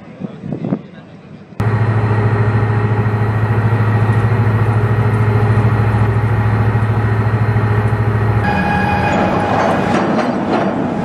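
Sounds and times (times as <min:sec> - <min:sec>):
boat engine running: 0:01.6 - 0:11.0.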